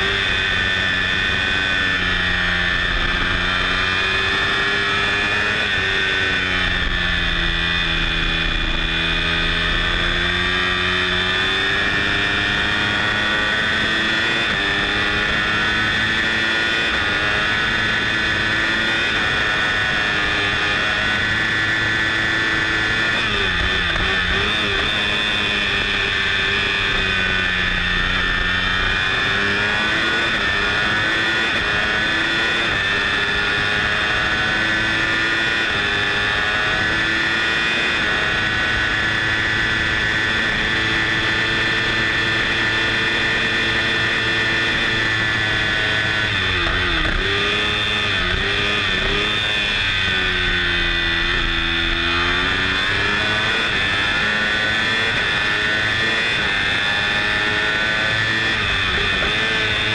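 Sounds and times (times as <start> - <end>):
motorcycle engine screaming: 0.0 - 59.9.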